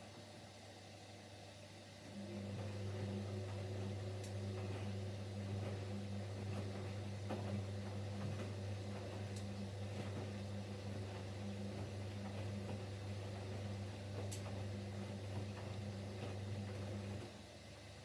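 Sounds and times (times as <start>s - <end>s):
washing machine drum humming: 2.1s - 18.0s.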